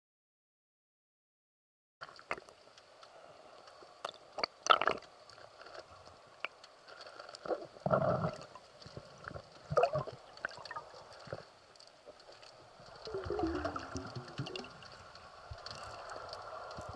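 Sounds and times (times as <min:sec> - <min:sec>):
water gurgling and sloshing: 0:02.2 - 0:16.9.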